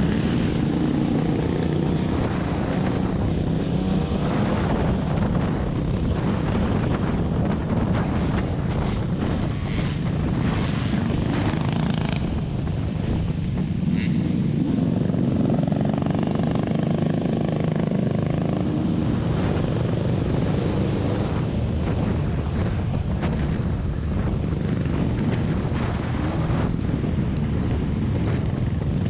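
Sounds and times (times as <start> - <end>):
vehicle engine and tyre rumble: 0.0 - 29.0
wind buffeting microphone: 0.0 - 29.0.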